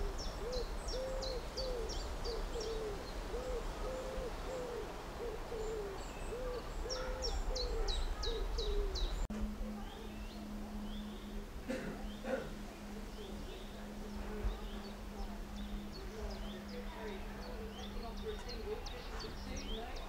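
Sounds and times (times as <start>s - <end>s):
dove cooing: 0.0s - 20.0s
low steady hum: 0.0s - 20.0s.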